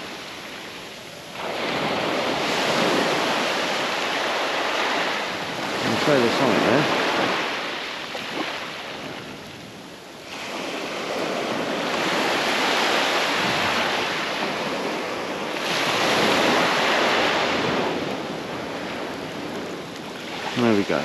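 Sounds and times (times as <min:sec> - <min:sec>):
small waves breaking on a beach: 0:00.0 - 0:21.0.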